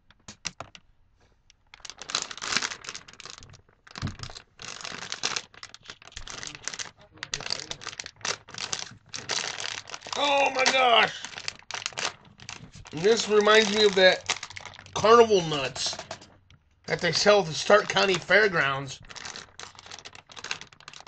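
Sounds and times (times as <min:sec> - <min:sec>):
plastic bag crinkling: 0:01.6 - 0:21.0.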